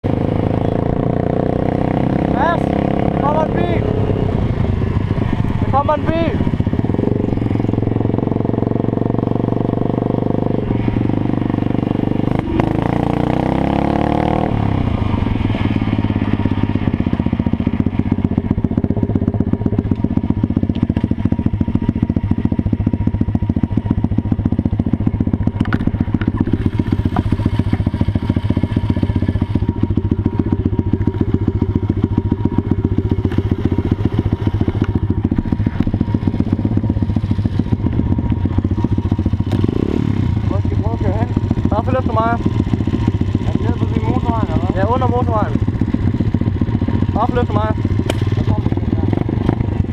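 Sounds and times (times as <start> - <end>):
small petrol engine running: 0.1 - 49.9.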